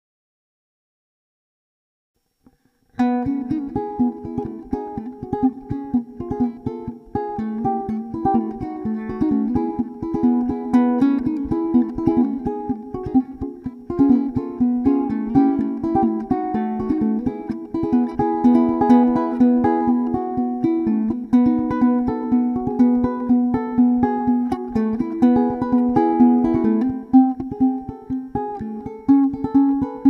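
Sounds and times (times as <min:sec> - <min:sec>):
fingerpicked ukulele: 0:02.4 - 0:30.0.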